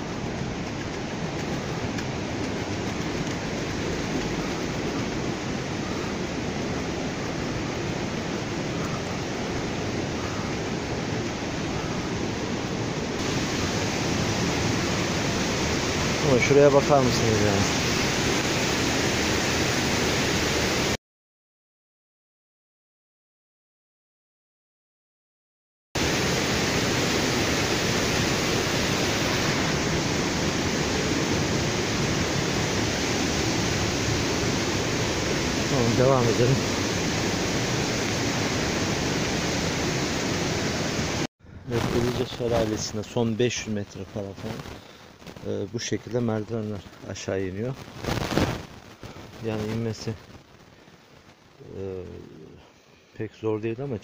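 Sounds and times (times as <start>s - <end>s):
mountain stream rushing: 0.0s - 21.0s, 26.0s - 50.9s.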